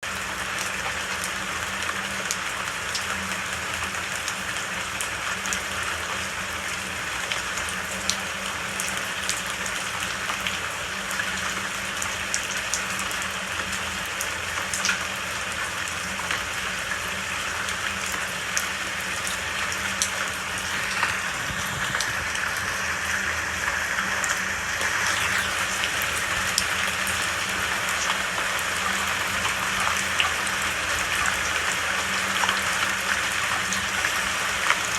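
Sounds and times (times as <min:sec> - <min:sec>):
raindrops ticking on a surface: 0:00.0 - 0:34.9
steady rain hiss: 0:00.1 - 0:34.9.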